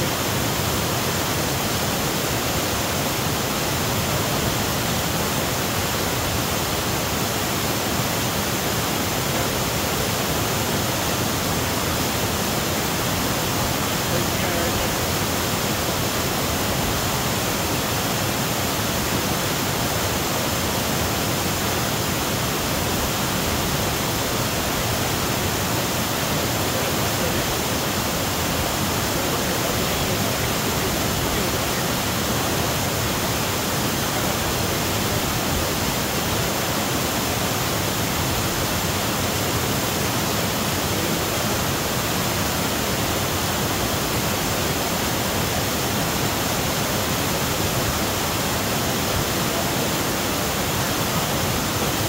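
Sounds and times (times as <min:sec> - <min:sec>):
waterfall rushing over boulders: 0:00.0 - 0:52.0.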